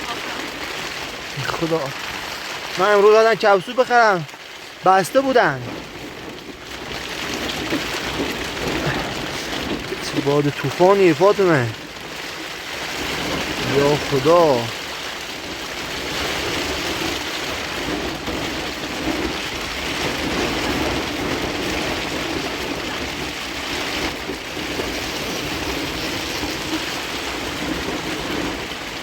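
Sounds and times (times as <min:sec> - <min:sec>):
heavy rain: 0:00.0 - 0:29.0
wind: 0:00.0 - 0:29.0.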